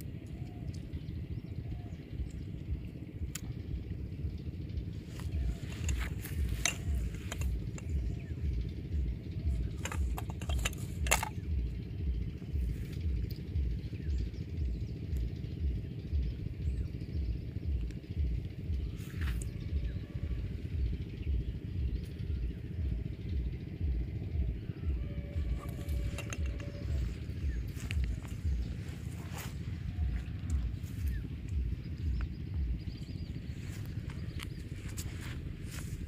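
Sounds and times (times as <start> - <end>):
engine running with low throb: 0.0 - 36.0.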